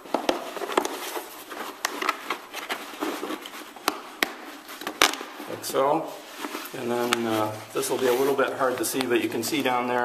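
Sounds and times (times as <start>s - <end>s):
lamp shade panel rustling: 0.6s - 9.9s.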